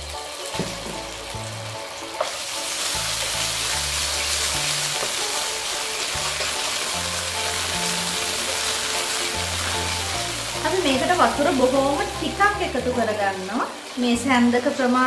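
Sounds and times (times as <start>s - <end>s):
background music with low bass: 0.0s - 14.6s
garlic sizzling in oil: 0.0s - 15.0s.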